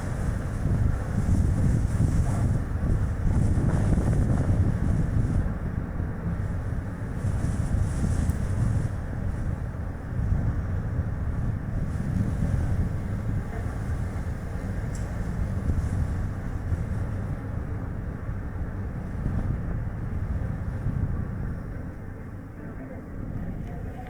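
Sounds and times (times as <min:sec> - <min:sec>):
wind gusting on microphone: 0:00.0 - 0:24.0.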